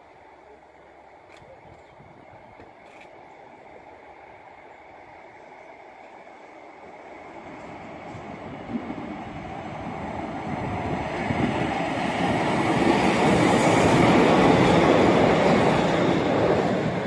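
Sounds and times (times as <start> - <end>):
diesel train passing: 1.9 - 17.0.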